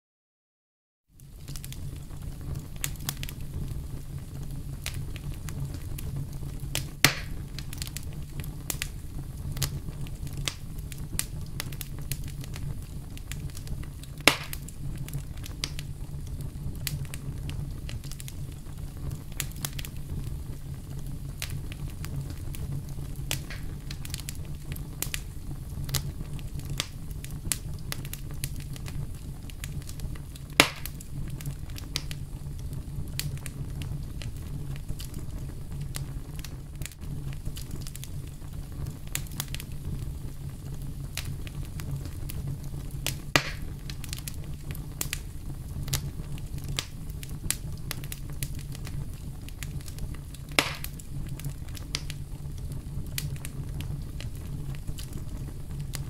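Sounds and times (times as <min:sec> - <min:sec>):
low rumble of flames: 0:01.1 - 0:56.0
campfire crackling and snapping: 0:01.2 - 0:56.0
loud fire pops: 0:01.2 - 0:56.0.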